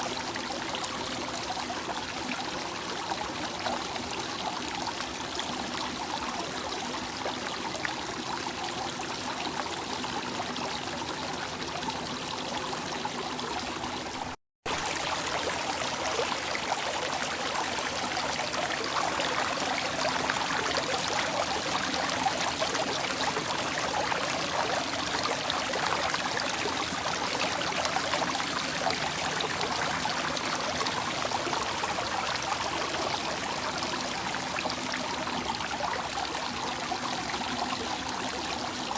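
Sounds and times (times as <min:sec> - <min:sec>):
flowing water: 0:00.0 - 0:38.9.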